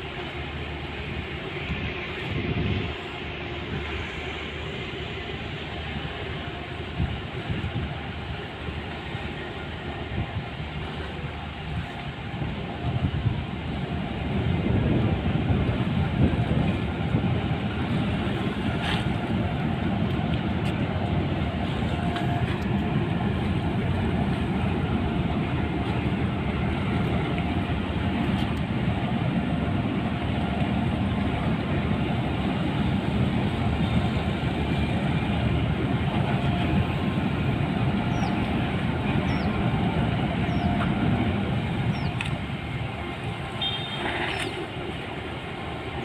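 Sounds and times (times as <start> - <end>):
ship engines rumbling: 0.0 - 46.0.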